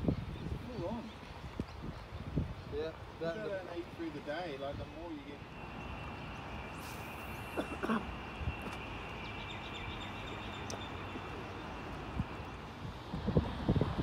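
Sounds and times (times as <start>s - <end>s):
birds chirping: 0.0s - 12.8s.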